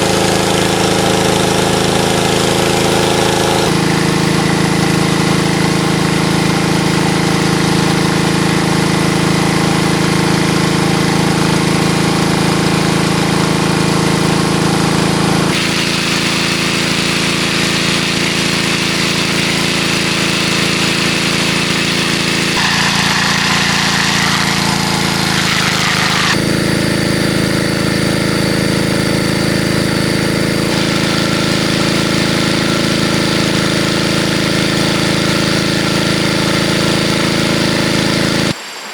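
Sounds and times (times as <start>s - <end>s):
small engine running: 0.0s - 38.8s.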